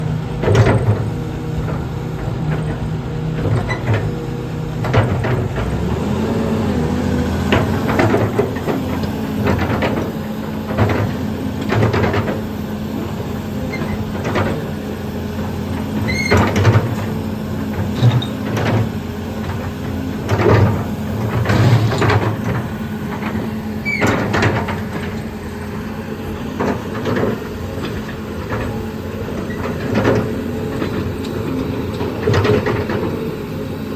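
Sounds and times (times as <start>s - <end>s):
excavator diesel engine running: 0.0s - 33.9s
machine clanks and knocks: 0.4s - 6.2s, 7.3s - 12.5s, 13.6s - 14.8s, 15.6s - 25.6s, 26.5s - 33.3s.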